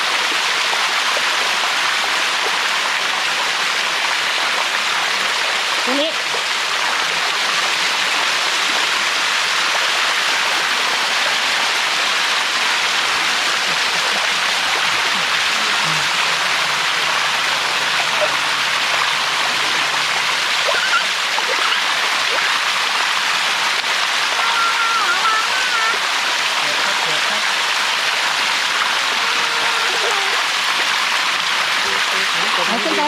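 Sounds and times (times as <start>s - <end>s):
waterfall rushing over rock: 0.0s - 33.0s.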